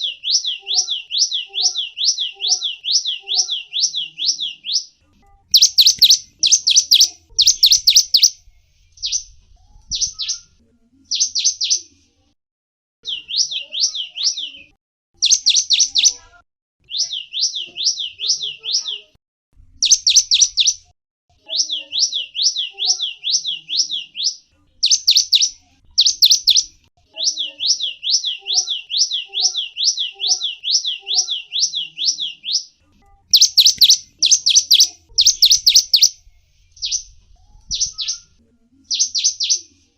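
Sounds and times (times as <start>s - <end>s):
small songbird rapid high chirps: 0.0s - 11.9s, 13.0s - 16.2s, 19.8s - 20.9s, 21.5s - 39.8s.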